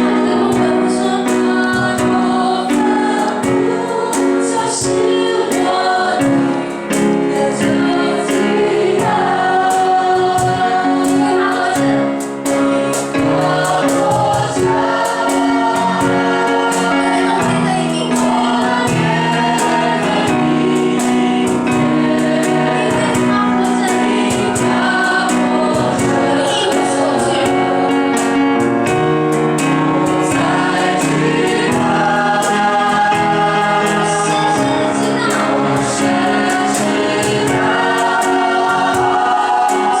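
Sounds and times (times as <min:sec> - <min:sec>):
choir singing worship song: 0:00.0 - 0:40.0
instrumental accompaniment with beat: 0:00.0 - 0:40.0.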